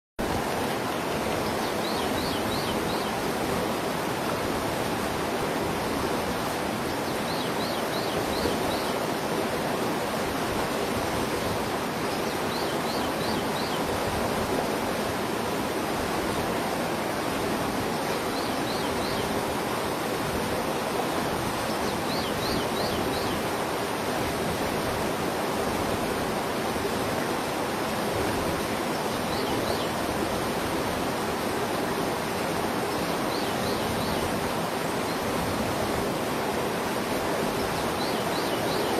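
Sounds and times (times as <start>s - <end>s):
flowing river water: 0.2s - 38.9s.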